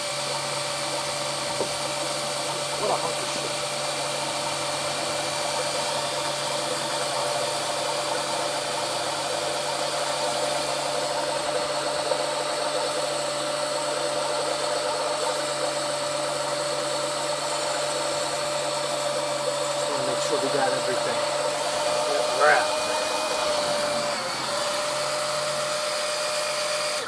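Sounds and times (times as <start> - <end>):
electric pump motor whirring: 0.0 - 27.0.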